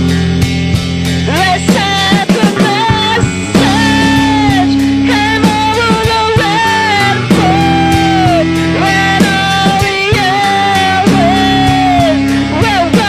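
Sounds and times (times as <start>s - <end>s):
punk band playing: 0.0s - 13.0s
person singing melodic line: 1.2s - 13.0s.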